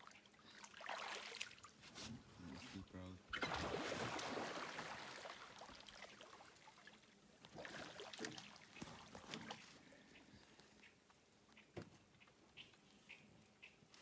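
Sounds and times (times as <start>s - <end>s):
faint water sounds: 0.0s - 14.0s.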